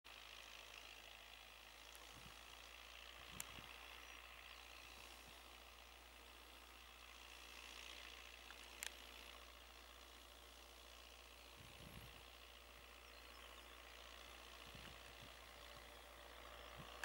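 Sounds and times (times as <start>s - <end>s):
distant tractor drone: 0.1s - 17.0s.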